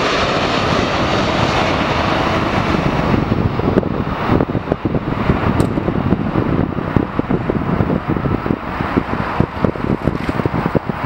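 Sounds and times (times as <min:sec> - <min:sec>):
jet engines rushing: 0:00.0 - 0:11.0
wind buffeting on microphone: 0:00.0 - 0:11.0.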